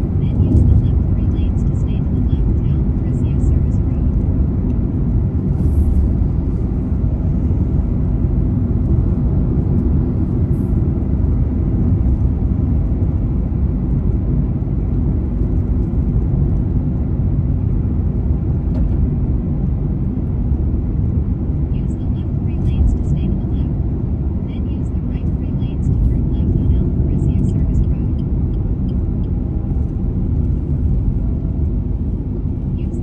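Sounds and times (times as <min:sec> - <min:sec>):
car driving on highway: 0:00.0 - 0:33.0.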